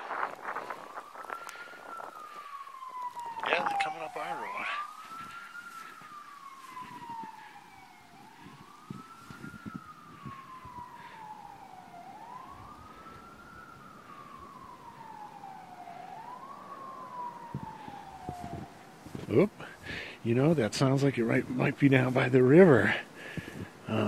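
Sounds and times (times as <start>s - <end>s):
faint siren wailing: 0.0s - 24.0s.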